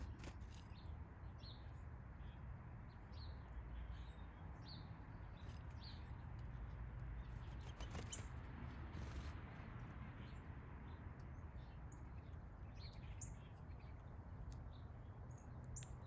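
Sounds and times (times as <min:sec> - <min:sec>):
small birds chirping: 0:00.0 - 0:09.3, 0:10.2 - 0:16.0.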